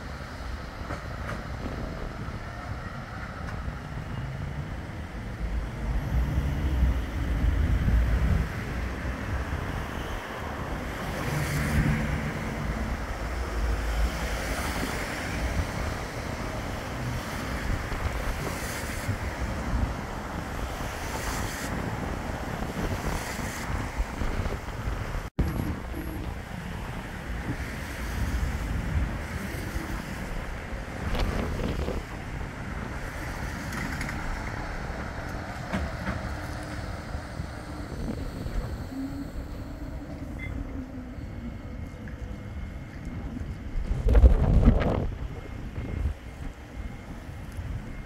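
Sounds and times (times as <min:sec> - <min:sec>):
tram pulling away: 0:00.0 - 0:48.0
wind buffeting microphone: 0:00.0 - 0:48.0.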